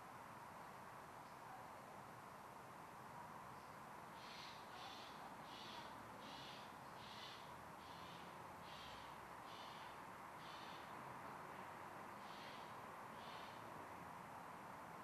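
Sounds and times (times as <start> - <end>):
low outdoor hiss: 0.0 - 15.0.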